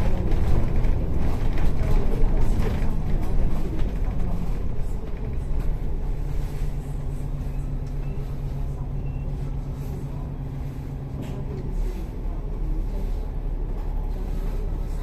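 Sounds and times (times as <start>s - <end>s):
bus engine running: 0.0s - 15.0s
low road rumble: 0.0s - 15.0s.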